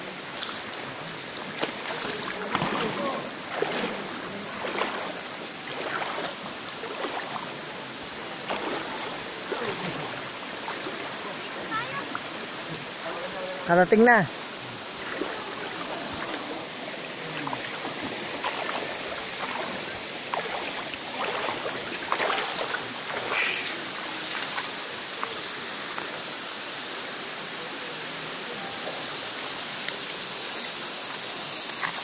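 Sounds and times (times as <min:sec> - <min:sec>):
river flowing: 0:00.0 - 0:32.0
waterfall rushing: 0:00.0 - 0:32.0.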